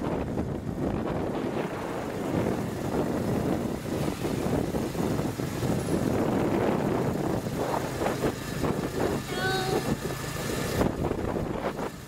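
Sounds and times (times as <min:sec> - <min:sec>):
scooter engine and tyres: 0:00.0 - 0:12.0
wind buffeting microphone: 0:00.0 - 0:12.0.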